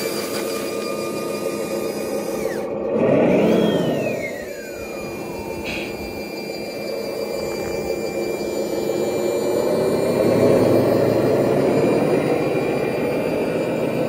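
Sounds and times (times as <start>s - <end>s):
toy truck engine and motors: 0.0s - 14.0s.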